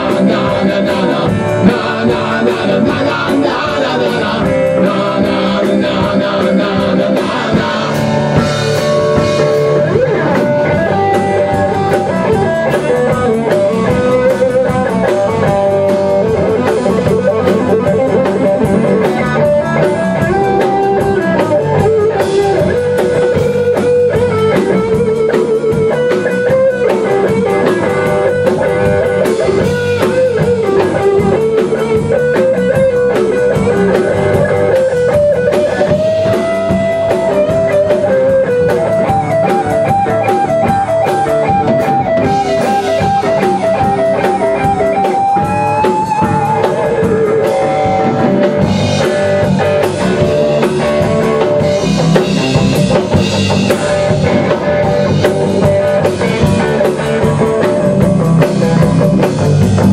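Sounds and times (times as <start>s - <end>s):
bass guitar: 0.0s - 59.9s
drum kit: 0.0s - 59.9s
electric guitar lead: 0.0s - 59.9s.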